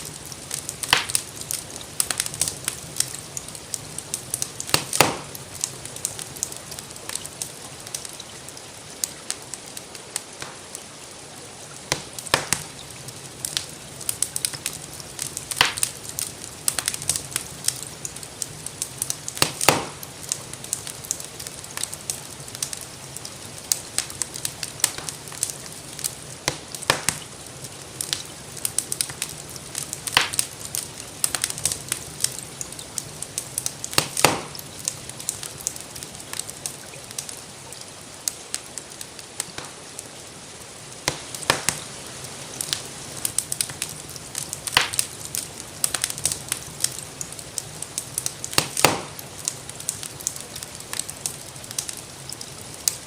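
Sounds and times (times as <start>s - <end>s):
hiss of falling rain: 0.0s - 53.0s
wood fire crackling: 0.0s - 53.0s.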